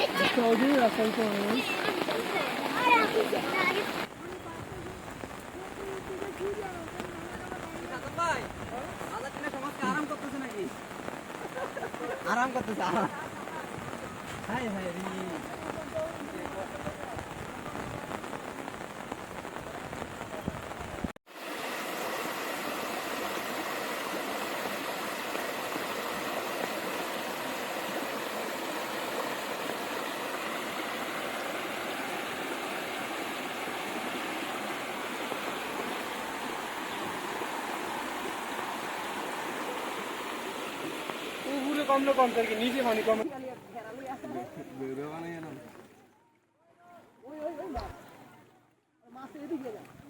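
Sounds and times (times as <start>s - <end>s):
floodwater rushing: 0.0s - 46.2s, 46.8s - 50.0s.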